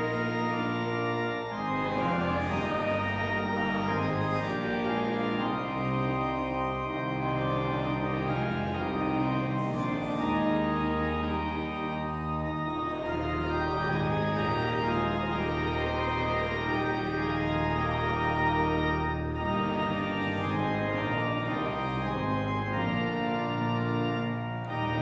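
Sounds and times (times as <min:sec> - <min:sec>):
church organ chords: 0:00.0 - 0:25.0.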